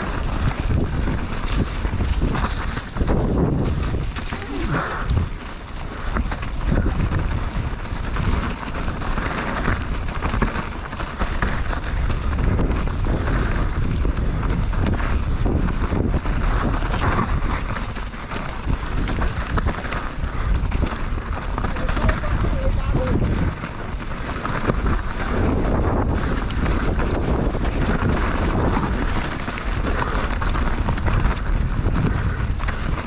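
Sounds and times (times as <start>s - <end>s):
bike rattling: 0.0s - 33.0s
tyres crunching on dirt: 0.0s - 33.0s
wind buffeting microphone: 0.0s - 33.0s.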